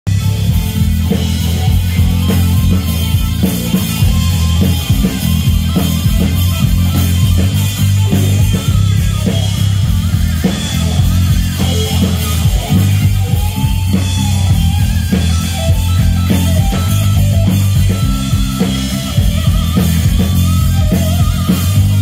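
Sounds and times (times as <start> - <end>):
drums: 0.0 - 22.0
electric guitar solo: 0.1 - 22.0
live rock band: 0.1 - 22.0.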